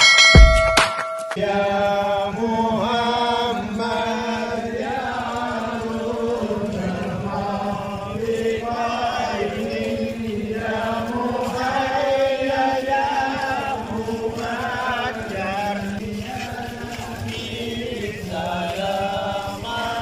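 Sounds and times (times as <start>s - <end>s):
men chanting in unison: 1.4s - 20.0s.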